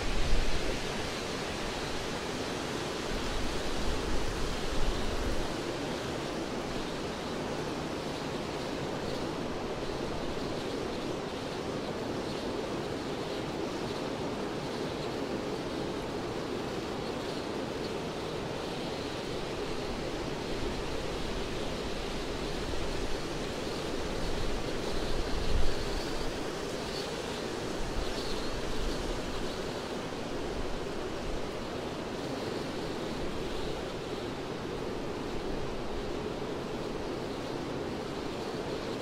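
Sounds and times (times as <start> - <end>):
wind through pine trees: 0.0 - 39.0.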